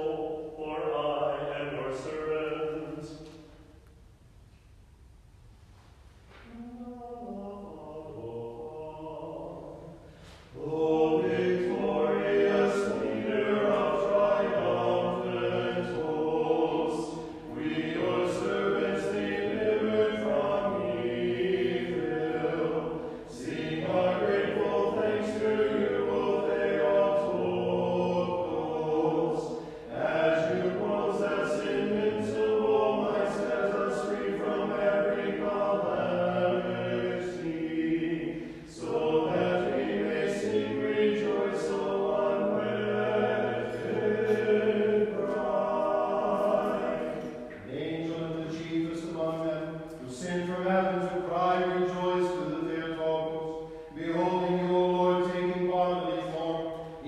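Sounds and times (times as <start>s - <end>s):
choir singing a hymn: 0.0s - 3.6s, 6.4s - 57.0s
single voice singing: 6.4s - 57.0s.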